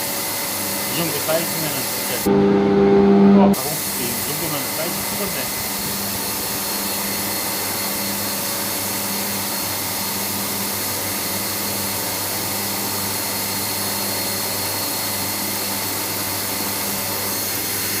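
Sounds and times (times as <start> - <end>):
milling machine cutting: 0.0 - 18.0.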